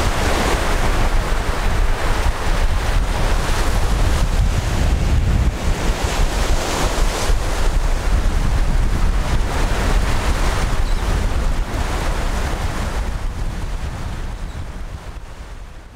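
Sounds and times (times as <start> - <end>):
ocean waves: 0.0 - 15.9
wind buffeting microphone: 0.0 - 15.9.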